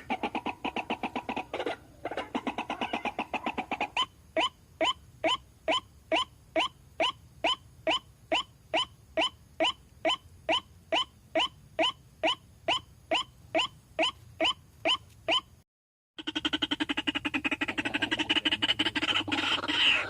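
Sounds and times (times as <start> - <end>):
waterhen call repeated notes: 0.0 - 15.6, 16.2 - 20.0.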